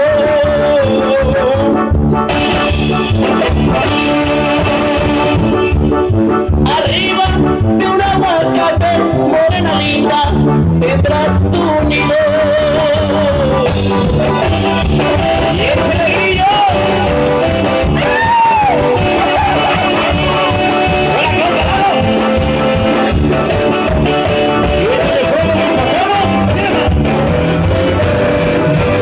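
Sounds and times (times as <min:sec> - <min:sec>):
band with trombones and guitar: 0:00.0 - 0:29.0.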